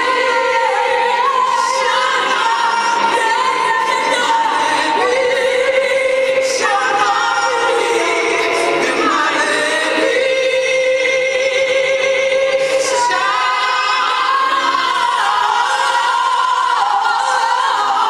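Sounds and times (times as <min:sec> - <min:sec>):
woman singing gospel song: 0:00.0 - 0:18.0.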